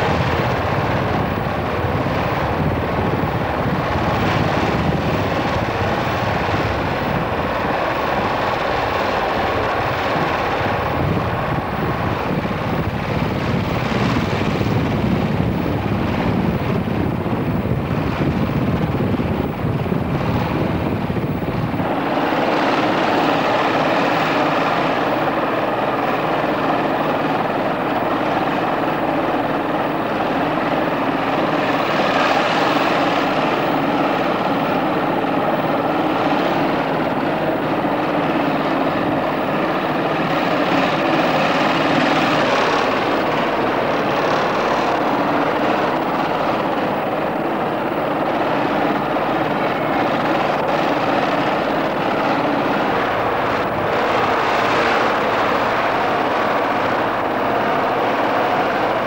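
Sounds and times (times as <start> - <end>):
propeller engine running: 0.0 - 59.0.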